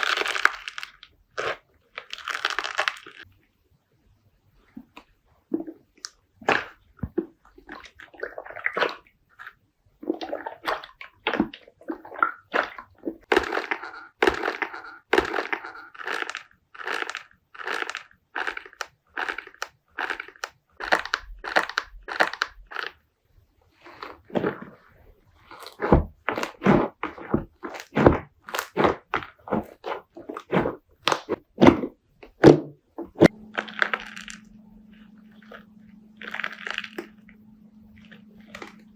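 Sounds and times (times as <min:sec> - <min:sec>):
slime squishing and popping: 0:00.0 - 0:03.3, 0:05.5 - 0:23.0, 0:25.5 - 0:38.9.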